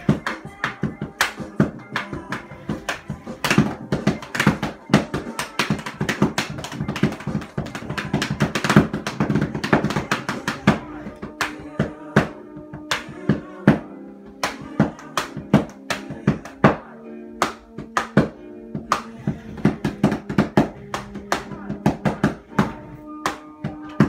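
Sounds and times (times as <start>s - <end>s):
drumsticks hitting makeshift drums: 0.0s - 24.0s
song playing: 0.0s - 24.0s.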